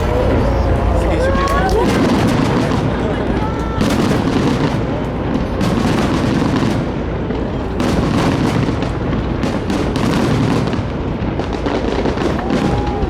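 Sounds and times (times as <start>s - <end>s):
fireworks booming: 0.0s - 13.0s
fireworks rumble and crackle: 0.0s - 13.0s.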